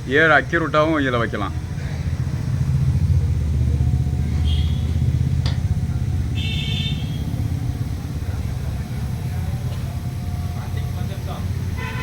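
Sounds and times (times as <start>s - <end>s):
motor fluttering rumble: 0.0s - 12.0s.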